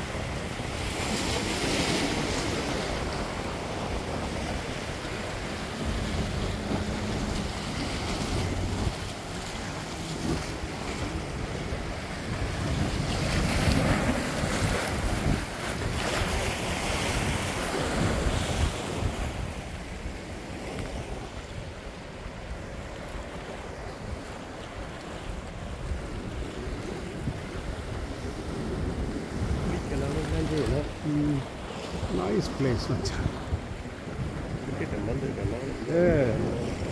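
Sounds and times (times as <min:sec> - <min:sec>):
wind buffeting microphone: 0:00.0 - 0:21.8, 0:22.6 - 0:36.9
waves breaking on rocks: 0:00.0 - 0:36.9.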